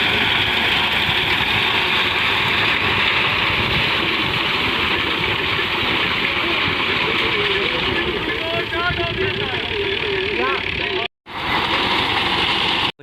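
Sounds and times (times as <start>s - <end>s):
harvesting machine cutting wheat: 0.0s - 13.0s
tractor engine running: 0.0s - 13.0s.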